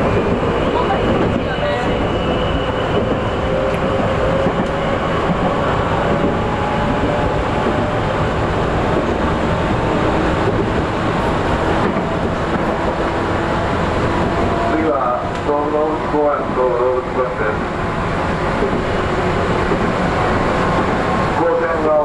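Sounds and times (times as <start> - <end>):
electric train rumbling on rails: 0.0 - 22.0.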